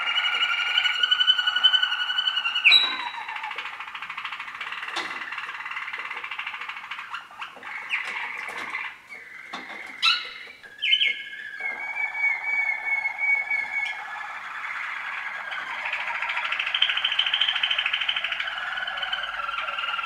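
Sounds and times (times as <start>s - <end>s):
canaries singing rolling trills: 0.0s - 20.0s.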